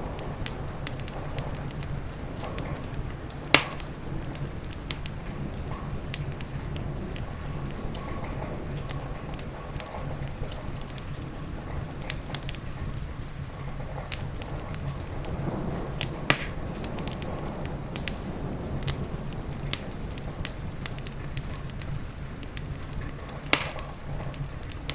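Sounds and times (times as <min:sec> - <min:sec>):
rain rumble and hiss: 0:00.0 - 0:24.9
wood fire crackling and popping: 0:00.0 - 0:24.9.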